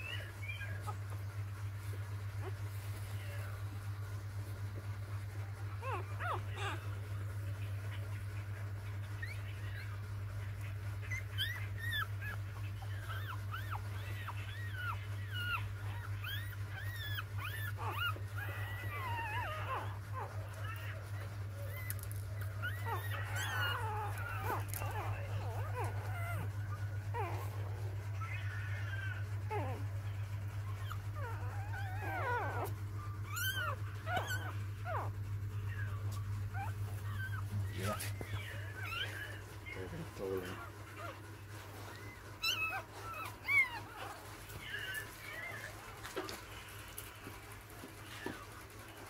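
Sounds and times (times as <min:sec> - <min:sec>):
puppies whimpering: 0:00.0 - 0:49.0
steady low hum: 0:00.0 - 0:49.0.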